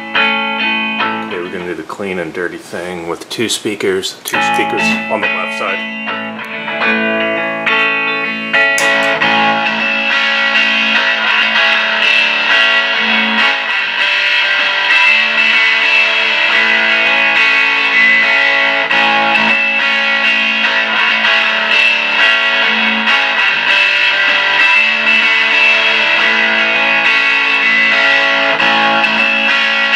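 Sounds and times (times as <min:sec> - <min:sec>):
overdriven electric guitar loop: 0:00.0 - 0:01.7, 0:04.3 - 0:29.9.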